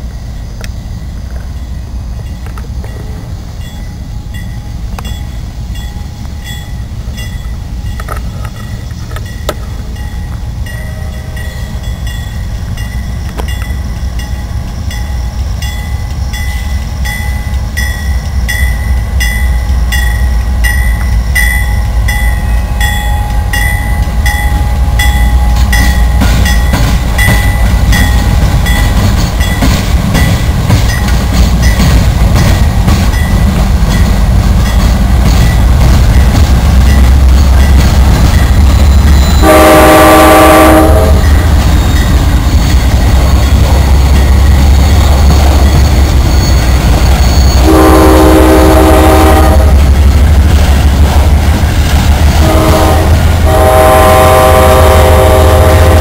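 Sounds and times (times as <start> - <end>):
diesel locomotive engine rumble: 0.0 - 56.0
wheels ticking on rails: 0.0 - 56.0.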